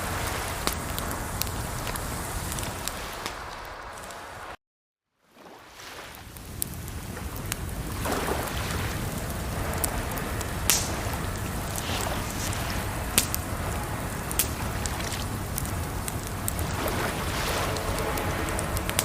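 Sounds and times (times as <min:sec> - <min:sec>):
rushing water: 0:00.0 - 0:04.5, 0:05.2 - 0:19.0
wood fire crackling: 0:00.0 - 0:04.6, 0:06.2 - 0:19.0.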